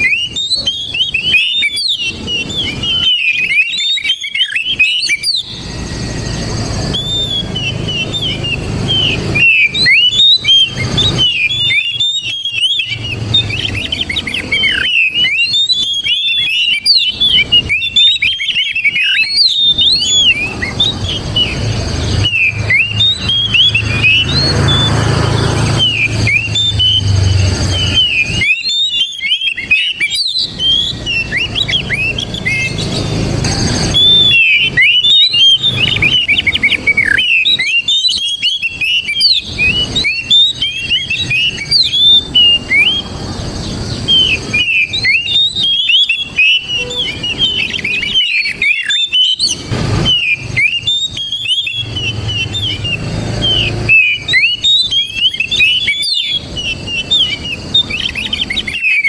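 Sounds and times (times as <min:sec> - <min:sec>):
magpie-robin singing whistles and chirps: 0:00.0 - 0:59.0.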